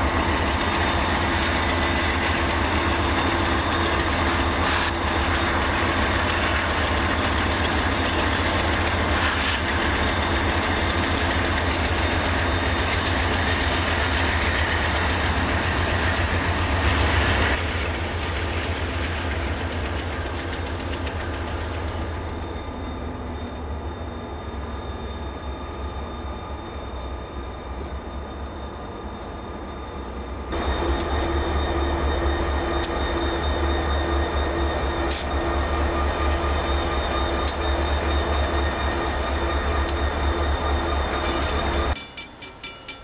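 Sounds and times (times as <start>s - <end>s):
diesel locomotive engine rumble: 0.0s - 43.0s
pulsing locomotive engine: 0.0s - 43.0s.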